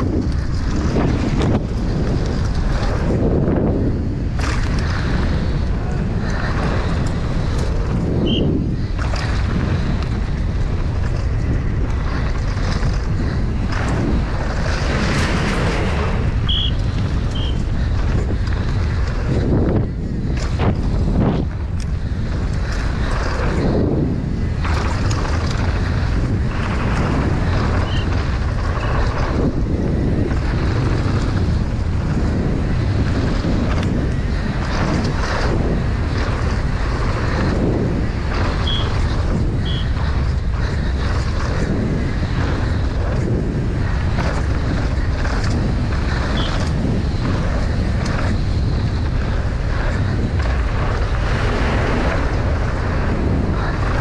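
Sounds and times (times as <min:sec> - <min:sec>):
bike clattering over rough ground: 0:00.0 - 0:54.0
wind on microphone: 0:00.0 - 0:54.0.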